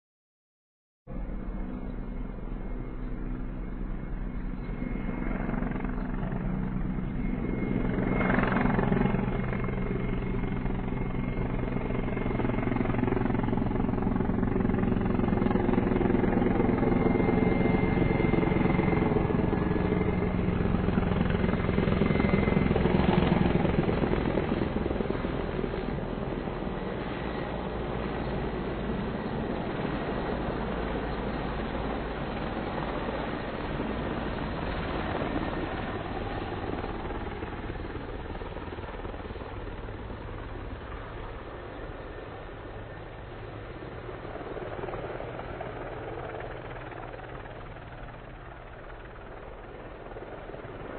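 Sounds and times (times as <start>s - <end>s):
helicopter rotor and engines: 1.1s - 50.9s.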